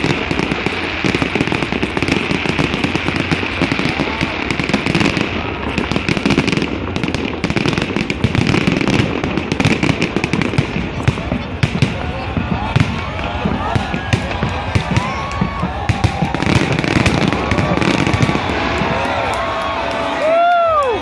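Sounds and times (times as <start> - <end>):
fireworks popping and crackling: 0.0 - 21.0.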